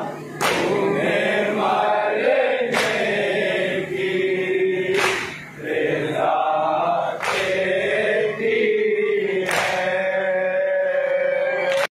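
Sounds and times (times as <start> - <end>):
men chanting in unison: 0.5 - 11.9.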